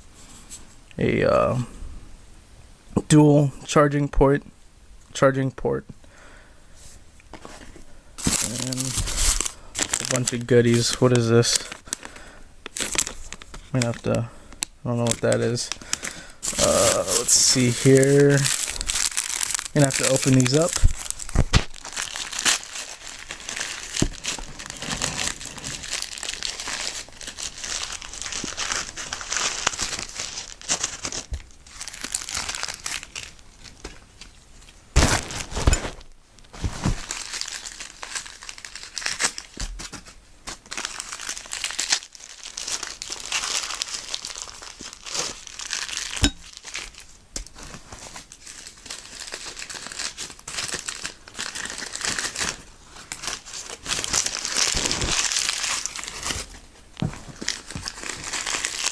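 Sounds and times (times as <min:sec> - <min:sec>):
packaging crinkling and tearing: 0:07.4 - 0:58.9.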